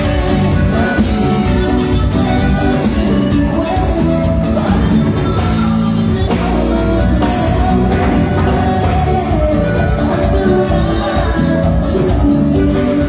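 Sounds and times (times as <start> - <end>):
drum kit beat: 0.0 - 13.0
electric guitars: 0.0 - 13.0
live band playing: 0.0 - 13.0.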